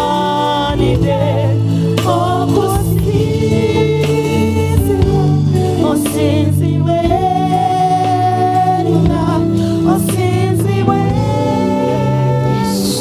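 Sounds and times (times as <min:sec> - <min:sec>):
band accompaniment: 0:00.0 - 0:13.0
group singing gospel: 0:00.0 - 0:13.0.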